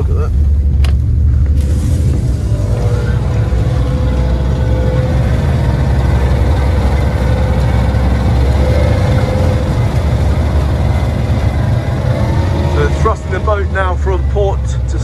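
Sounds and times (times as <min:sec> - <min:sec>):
outboard motors rumbling: 0:00.0 - 0:15.0.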